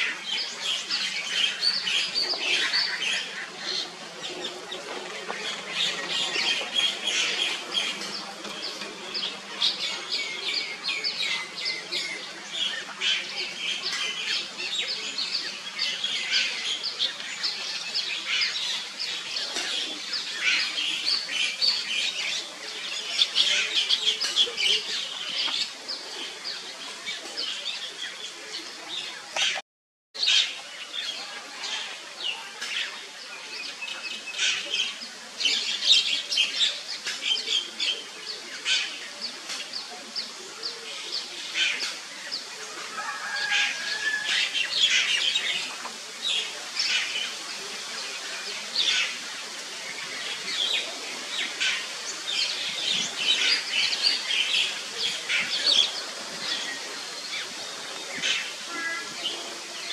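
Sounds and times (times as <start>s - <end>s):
birds chirping: 0.0s - 29.6s, 33.6s - 59.9s
steady outdoor hiss: 0.0s - 29.6s, 30.2s - 59.9s.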